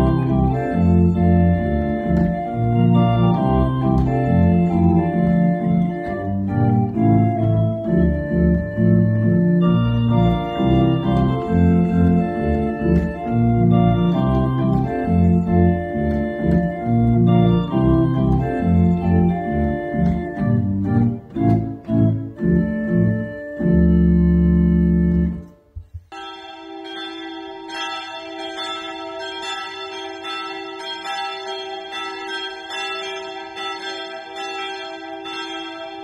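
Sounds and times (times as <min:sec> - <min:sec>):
church bells ringing: 0:00.0 - 0:23.1, 0:26.1 - 0:36.0
pipe organ chords: 0:00.0 - 0:36.0.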